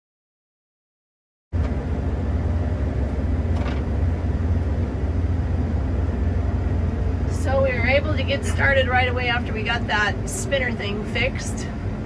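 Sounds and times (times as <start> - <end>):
combine harvester engine rumble: 1.6 - 12.0.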